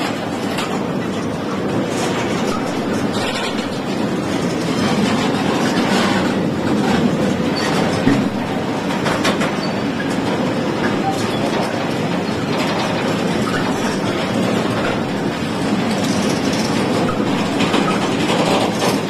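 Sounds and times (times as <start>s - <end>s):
rail clicks: 0.0s - 19.0s
train wheels rumbling on track: 0.0s - 19.0s.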